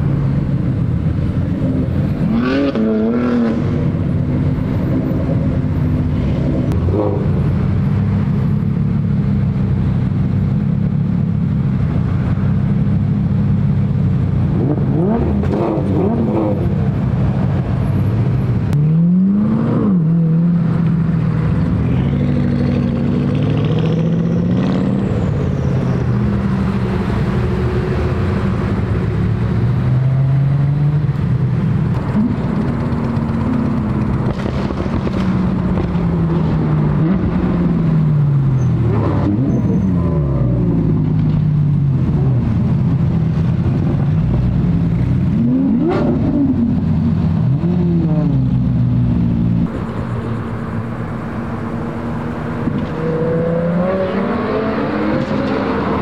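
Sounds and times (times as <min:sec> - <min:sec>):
car engines revving past: 0:00.0 - 0:10.3, 0:11.4 - 0:56.0.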